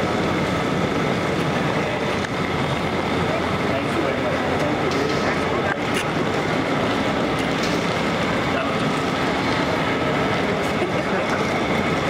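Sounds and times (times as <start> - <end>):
airport terminal rumbling ambience: 0.0 - 12.0.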